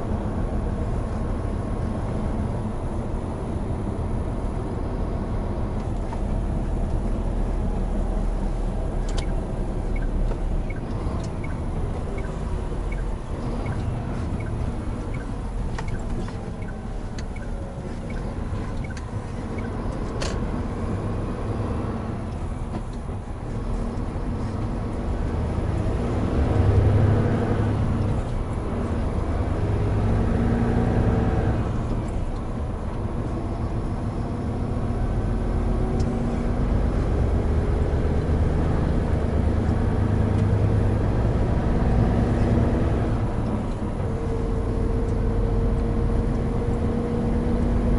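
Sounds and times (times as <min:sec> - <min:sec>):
road noise: 0:00.0 - 0:47.9
truck diesel engine running: 0:00.0 - 0:47.9.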